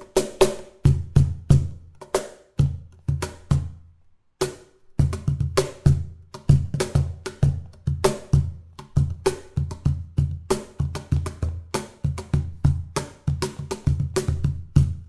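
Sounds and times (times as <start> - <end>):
cajon played by hand: 0.0 - 3.8, 4.4 - 15.0.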